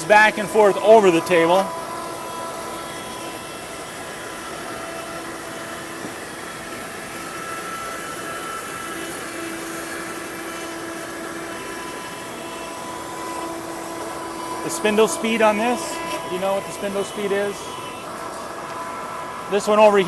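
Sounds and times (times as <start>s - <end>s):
cnc router spindle whine: 0.0s - 20.0s.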